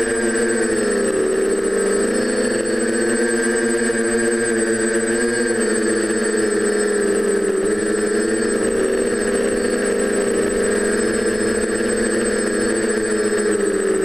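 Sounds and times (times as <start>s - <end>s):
drone motors whirring: 0.0s - 14.0s.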